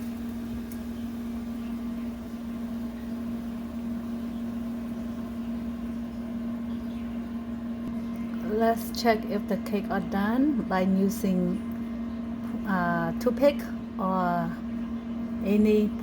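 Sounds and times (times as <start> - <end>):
oven humming: 0.0 - 16.0.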